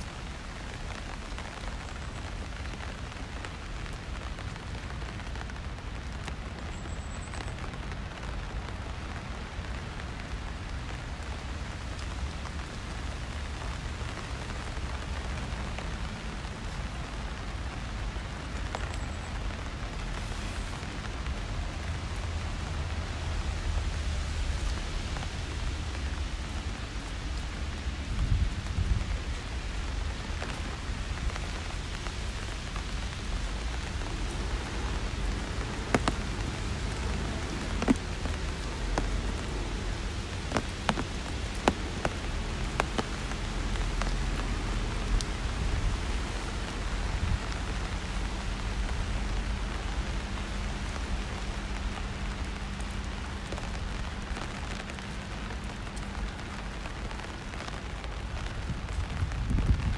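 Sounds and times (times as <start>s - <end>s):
rain on a street: 0.0s - 59.9s.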